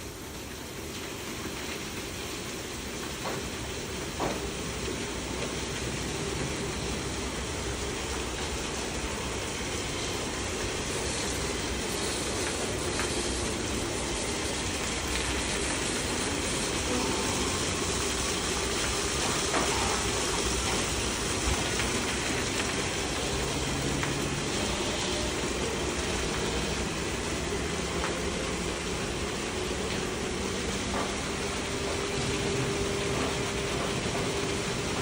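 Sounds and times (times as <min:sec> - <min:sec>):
car wash machine rumble: 0:00.0 - 0:35.0
water jets spraying: 0:00.0 - 0:35.0.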